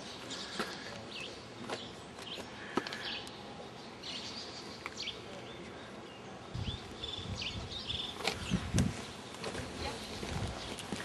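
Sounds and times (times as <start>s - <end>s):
birds chirping: 0.0s - 11.0s
outdoor background noise: 0.0s - 11.0s.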